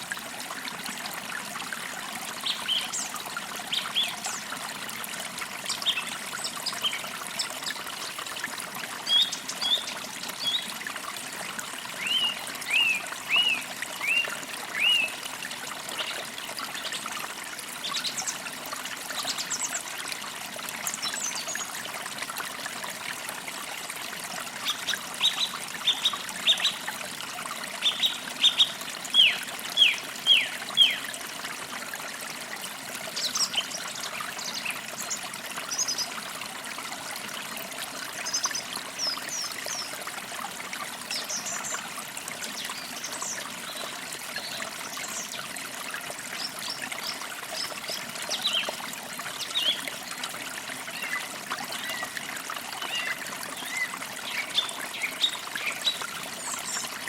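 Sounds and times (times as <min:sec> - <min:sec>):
creek trickling: 0:00.0 - 0:57.0.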